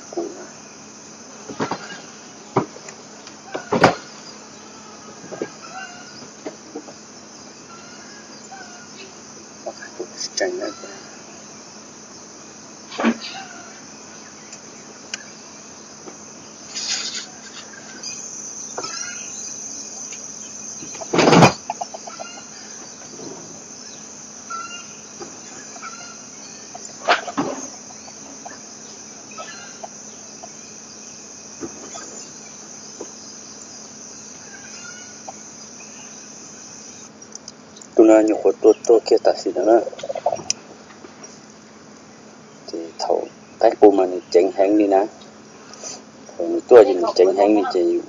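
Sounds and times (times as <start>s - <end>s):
high insect drone: 0.0s - 48.0s
junglefowl clucking and calling: 1.4s - 11.6s, 12.8s - 15.6s, 16.6s - 33.2s, 33.9s - 37.2s, 37.8s - 41.4s, 45.1s - 48.0s.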